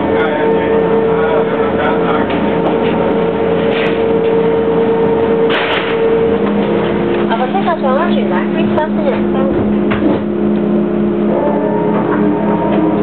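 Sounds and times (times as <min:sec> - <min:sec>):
constant whine: 0:00.0 - 0:13.0
turbine engine drone: 0:00.0 - 0:13.0.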